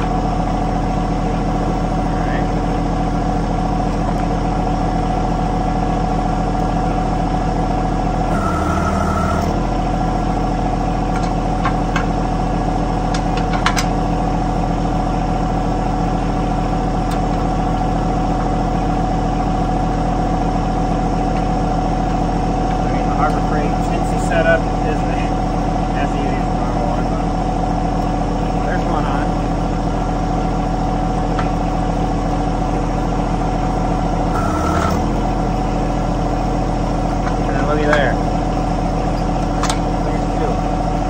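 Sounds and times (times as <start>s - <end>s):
tractor diesel engine idling: 0.0s - 41.0s.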